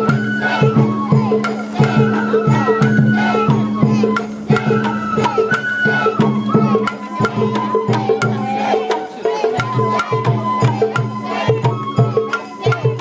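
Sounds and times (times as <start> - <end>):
bamboo flute melody: 0.0 - 13.0
taiko drum beats: 0.0 - 13.0.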